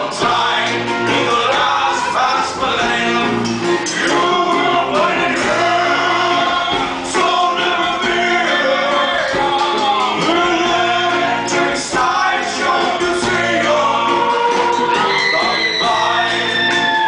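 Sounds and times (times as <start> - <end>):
drums and cymbals: 0.0 - 17.0
person singing: 0.0 - 17.0.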